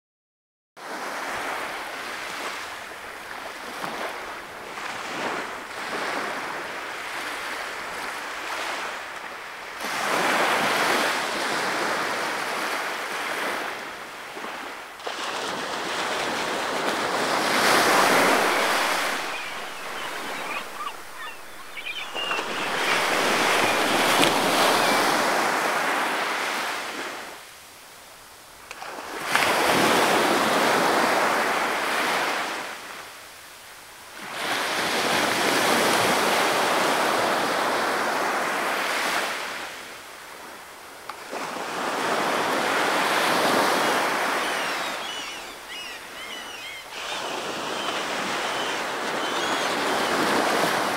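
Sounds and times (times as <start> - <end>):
small waves washing up shore: 0.8 - 50.9.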